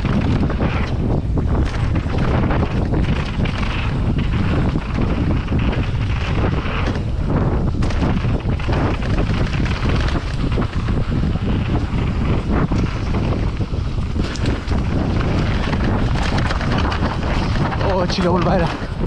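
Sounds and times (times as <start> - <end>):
bike rattling over rough ground: 0.0 - 19.0
tyres rumbling on dirt trail: 0.0 - 19.0
wind buffeting microphone: 0.0 - 19.0.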